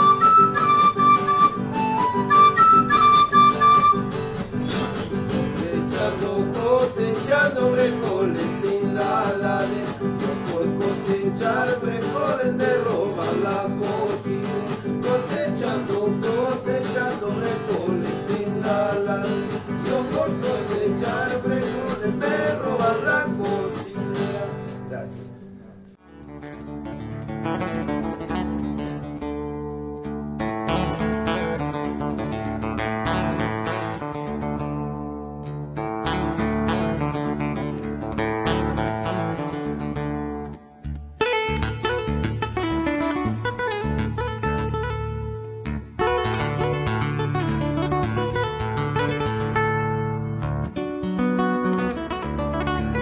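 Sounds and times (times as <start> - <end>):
folk music on acoustic guitars: 0.0 - 53.0.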